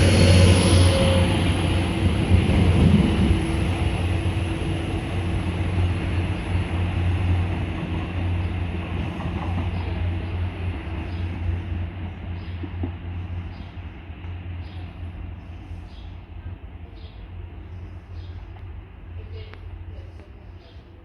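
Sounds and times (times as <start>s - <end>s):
diesel train engine droning: 0.0s - 21.0s.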